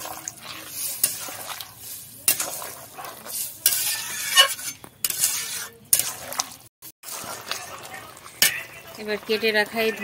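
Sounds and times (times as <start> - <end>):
metal spatula scraping pot: 0.0 - 10.0.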